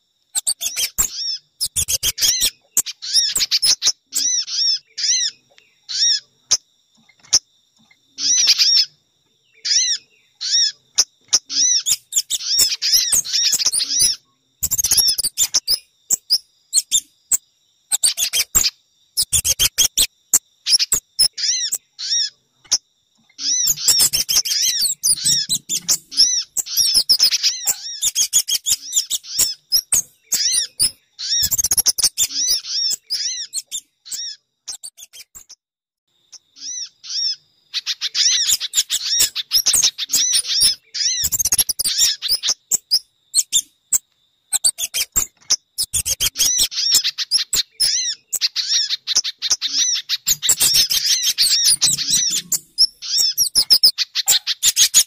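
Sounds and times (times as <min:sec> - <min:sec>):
birds chirping rapidly: 0:00.0 - 0:35.6, 0:36.3 - 0:55.0.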